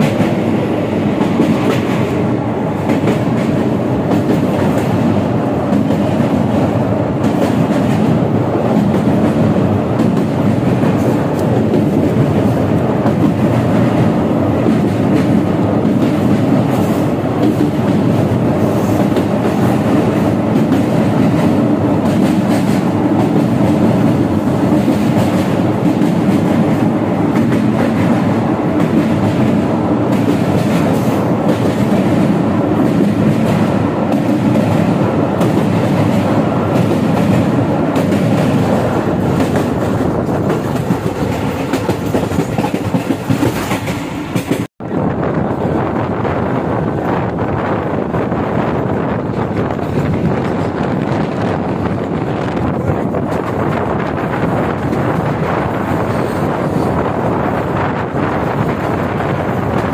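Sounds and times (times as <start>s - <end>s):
train wheels rumbling on track: 0.0s - 59.9s
wind on microphone: 0.0s - 59.9s.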